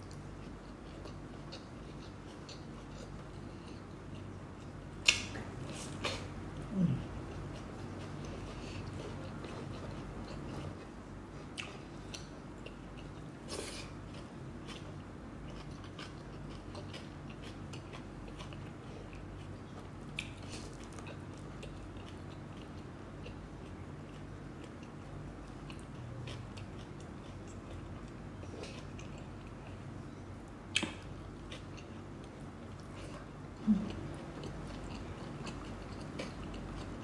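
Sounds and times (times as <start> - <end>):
chewing food: 0.0 - 29.8, 30.4 - 37.0
steady low hum: 0.0 - 37.0.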